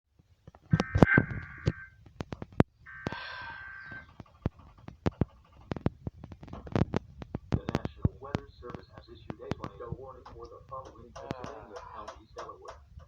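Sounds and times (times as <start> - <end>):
crackling clicks and pops: 0.1 - 13.0.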